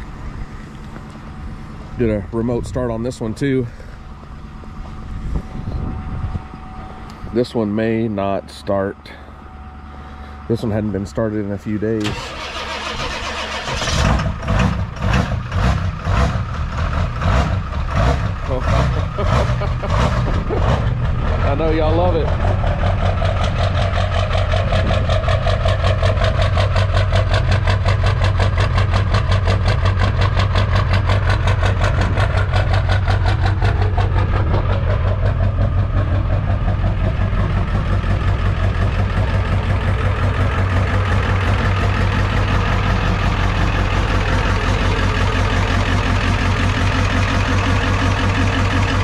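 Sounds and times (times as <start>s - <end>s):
diesel engine idling with clatter: 0.0s - 49.0s.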